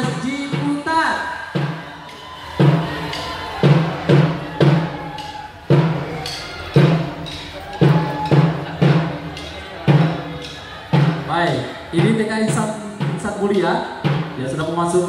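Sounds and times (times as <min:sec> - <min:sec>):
bass drum: 0:01.5 - 0:14.8.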